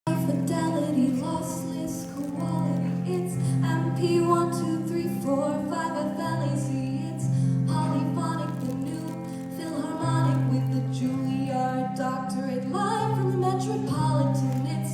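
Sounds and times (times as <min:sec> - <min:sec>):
person singing: 0:00.1 - 0:14.9.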